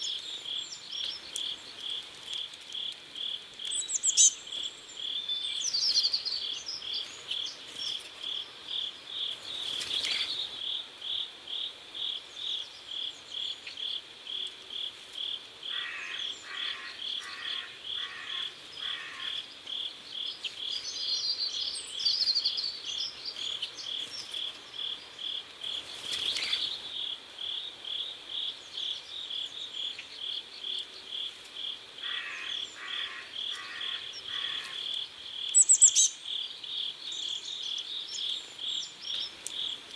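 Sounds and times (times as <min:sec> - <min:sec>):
crickets chirping: 0:00.0 - 0:39.9
lower pulsed insect call: 0:00.0 - 0:39.9.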